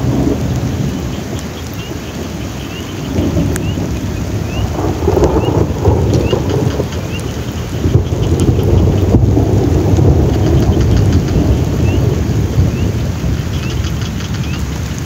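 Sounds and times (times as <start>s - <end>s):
heavy rain pouring: 0.0s - 15.0s
rolling thunder: 0.0s - 15.0s.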